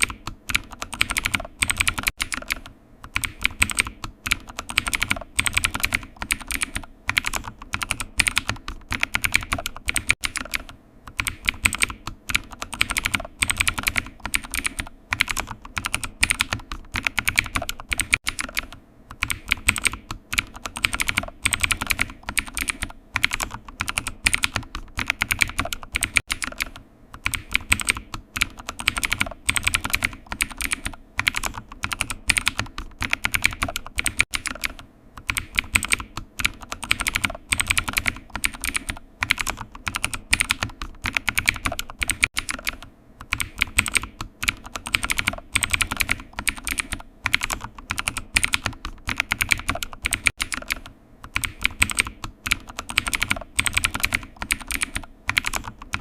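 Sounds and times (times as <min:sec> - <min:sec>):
computer keyboard typing: 0:00.0 - 0:56.0.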